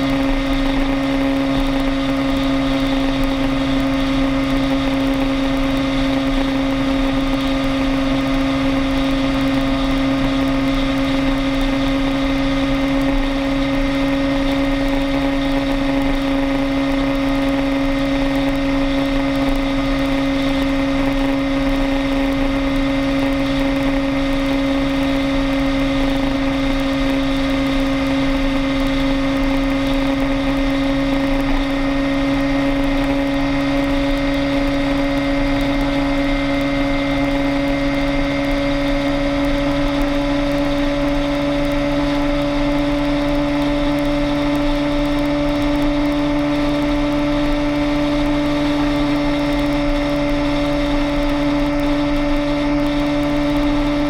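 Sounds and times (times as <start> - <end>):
road and wind noise: 0.0 - 54.0
vehicle engine drone: 0.0 - 54.0.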